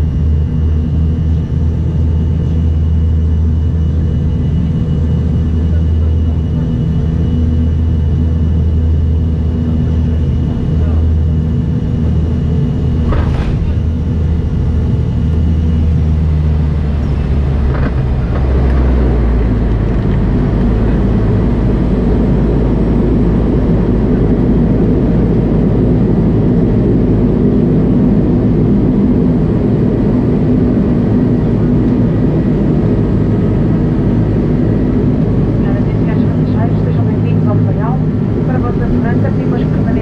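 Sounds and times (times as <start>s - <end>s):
turboprop engine drone: 0.0s - 40.0s.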